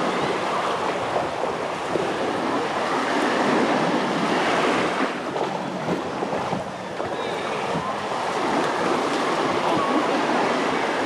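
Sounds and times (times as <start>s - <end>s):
surf washing up a beach: 0.0s - 11.0s.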